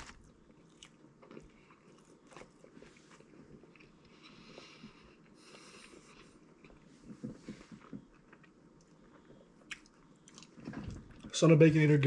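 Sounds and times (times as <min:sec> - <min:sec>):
person chewing food: 0:00.0 - 0:11.3.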